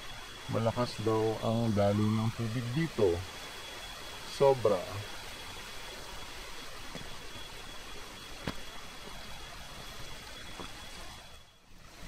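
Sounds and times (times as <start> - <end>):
thin high tone: 0.0 - 11.6.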